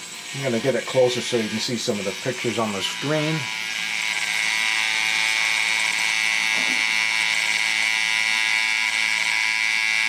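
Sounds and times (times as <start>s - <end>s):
toy motor high whine: 0.0s - 10.0s.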